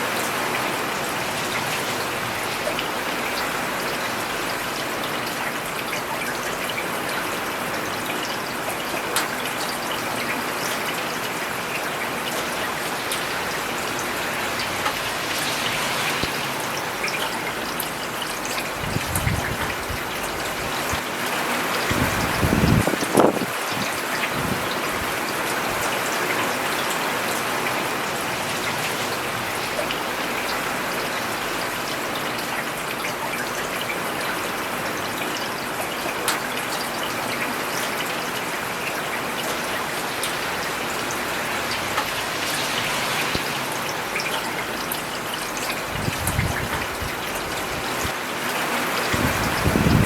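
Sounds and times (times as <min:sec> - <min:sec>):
rain falling on a road: 0:00.0 - 0:50.0
sharp ticks of raindrops: 0:00.1 - 0:50.0.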